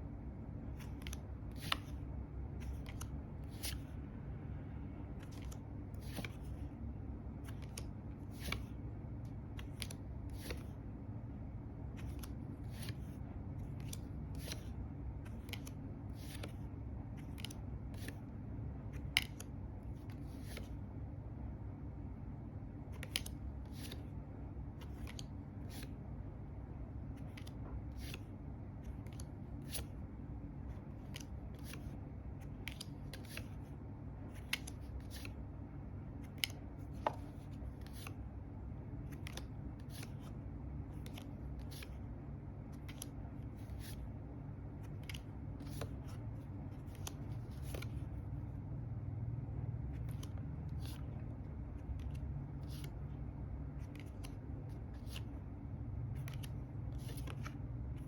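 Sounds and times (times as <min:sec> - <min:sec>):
low room hum: 0:00.0 - 0:58.0
cards being turned over: 0:00.6 - 0:04.0, 0:05.2 - 0:10.8, 0:11.9 - 0:20.8, 0:22.8 - 0:24.1, 0:24.8 - 0:26.0, 0:27.1 - 0:35.4, 0:36.2 - 0:38.2, 0:39.0 - 0:42.0, 0:42.6 - 0:48.4, 0:49.9 - 0:55.4, 0:56.1 - 0:58.0.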